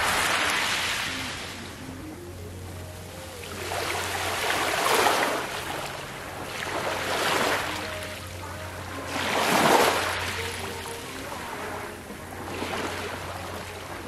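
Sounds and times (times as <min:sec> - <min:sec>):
waves lapping on pebbly beach: 0:00.0 - 0:01.6, 0:03.6 - 0:14.0.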